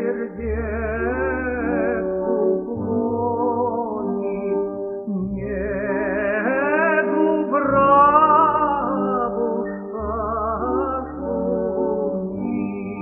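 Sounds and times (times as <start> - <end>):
tenor singing with vibrato: 0.0 - 13.0.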